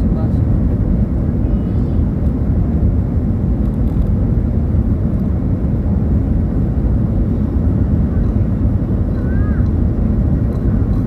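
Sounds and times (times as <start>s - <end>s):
jet engine and air rumble: 0.0s - 11.0s.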